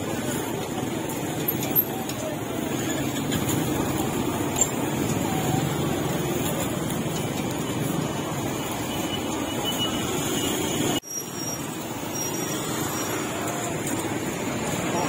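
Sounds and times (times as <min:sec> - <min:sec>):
motorbikes passing: 0:00.0 - 0:15.0
passing traffic: 0:00.0 - 0:15.0.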